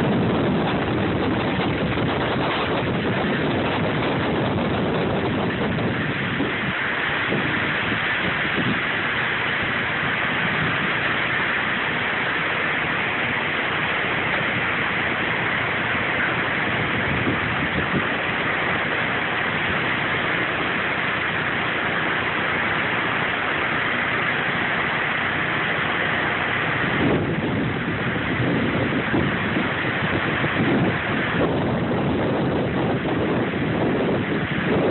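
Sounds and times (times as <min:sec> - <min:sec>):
heavy rain on trees: 0:00.0 - 0:34.9
strong wind: 0:00.0 - 0:34.9.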